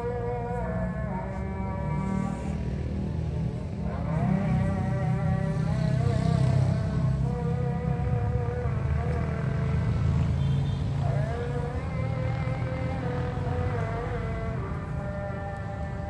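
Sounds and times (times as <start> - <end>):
small engine droning: 0.0 - 16.0.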